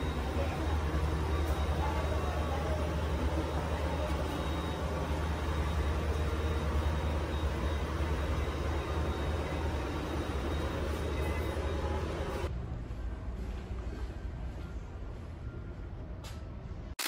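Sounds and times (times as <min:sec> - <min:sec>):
ship machinery and ventilation hum: 0:00.0 - 0:17.0.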